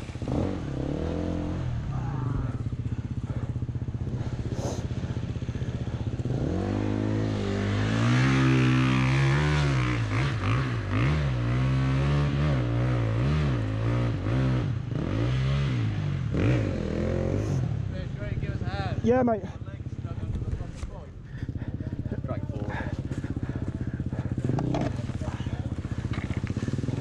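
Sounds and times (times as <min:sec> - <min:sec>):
dirt bike engine revving: 0:00.0 - 0:17.7, 0:21.1 - 0:27.0.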